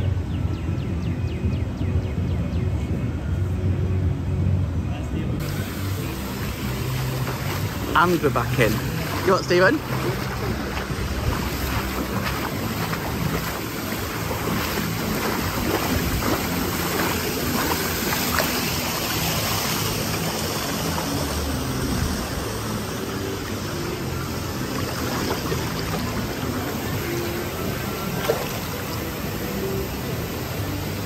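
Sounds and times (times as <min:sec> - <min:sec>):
water rushing and lapping: 0:05.4 - 0:31.0.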